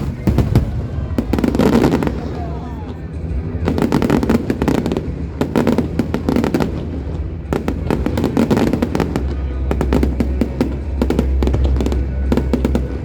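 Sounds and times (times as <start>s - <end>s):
fireworks cracks and bangs: 0.0s - 13.0s
low rumble: 0.0s - 13.0s.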